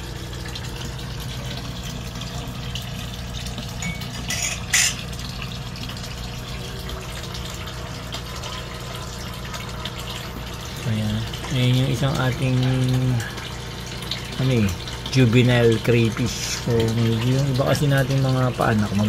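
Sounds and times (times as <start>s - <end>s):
low pump hum: 0.0s - 19.0s
water running in a tank: 0.0s - 19.0s.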